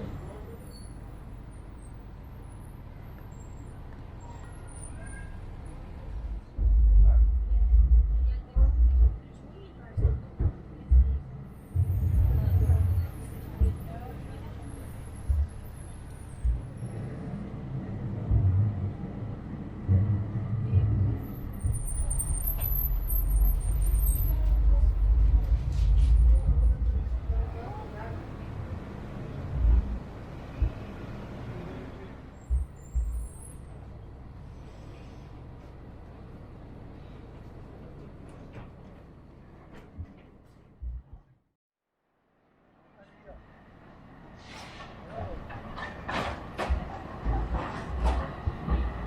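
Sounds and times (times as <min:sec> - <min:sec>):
vehicle engine rumble: 0:00.0 - 0:41.4, 0:43.0 - 0:49.0.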